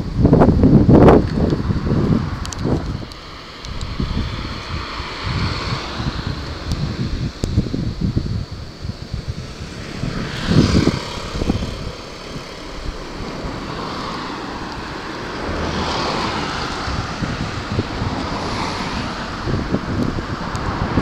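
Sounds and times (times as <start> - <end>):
wind buffeting microphone: 0.0 - 21.0
passing vehicle rushing: 0.2 - 21.0.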